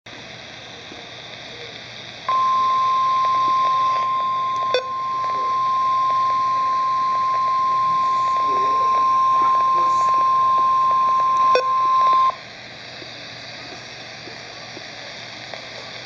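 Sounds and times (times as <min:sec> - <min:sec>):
radio hiss: 0:00.1 - 0:16.0.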